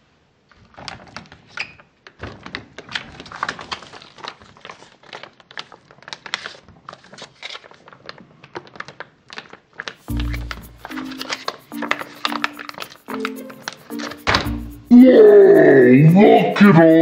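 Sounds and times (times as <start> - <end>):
plastic packaging crinkling: 0.6 - 14.7.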